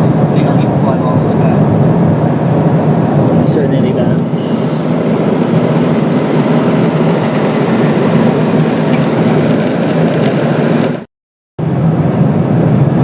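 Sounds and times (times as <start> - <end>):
aircraft cabin engine and airflow rush: 0.0 - 13.0.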